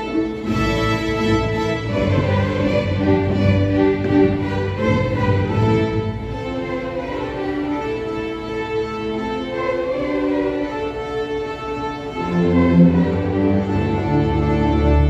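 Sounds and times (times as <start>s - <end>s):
low strings deep notes: 0.0s - 15.0s
violins sustained notes: 0.0s - 15.0s.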